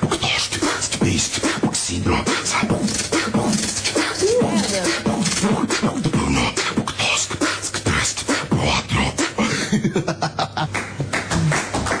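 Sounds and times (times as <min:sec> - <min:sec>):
person beatboxing: 0:00.0 - 0:09.7, 0:11.0 - 0:12.0.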